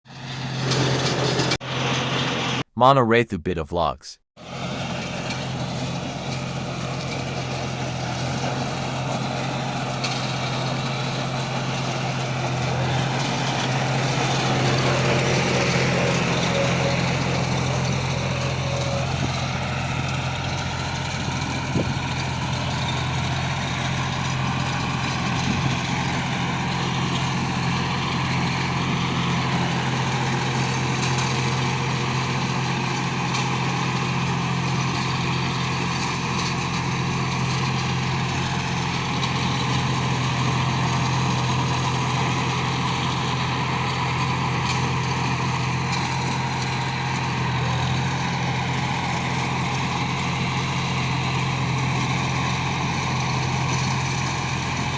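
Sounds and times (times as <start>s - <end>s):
tractor diesel engine running: 0.0s - 2.7s, 3.8s - 54.9s.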